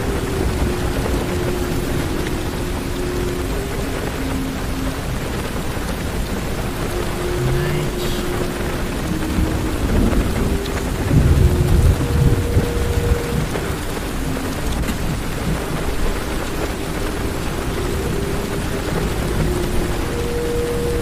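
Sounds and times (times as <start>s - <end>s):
heavy rain on car roof: 0.0s - 21.0s
thunder rumble: 0.0s - 21.0s.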